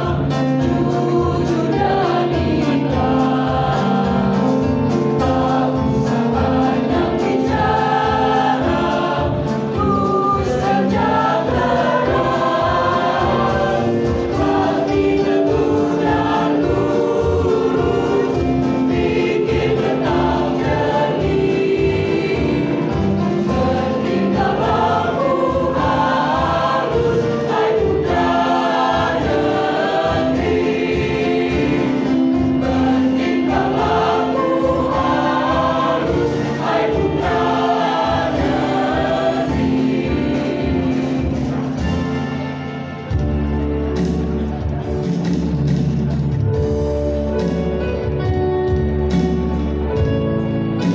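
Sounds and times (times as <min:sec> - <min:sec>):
mixed choir singing: 0:00.0 - 0:43.2.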